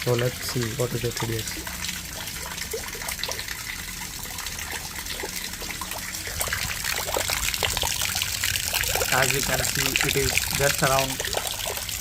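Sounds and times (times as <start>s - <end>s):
rainwater trickling and dripping: 0.0s - 12.0s
small water splashes: 0.0s - 12.0s.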